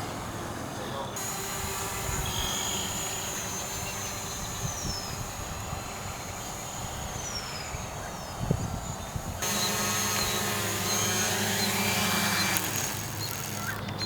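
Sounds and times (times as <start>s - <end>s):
low wind rumble: 0.0s - 13.5s
drone propellers whining: 0.0s - 14.0s.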